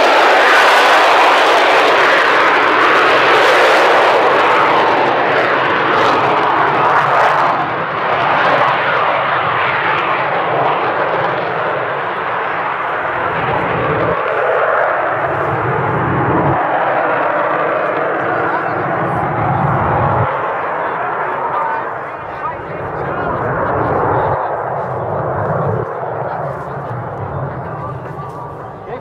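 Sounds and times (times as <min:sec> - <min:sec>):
fighter jet roar passing: 0:00.0 - 0:29.0.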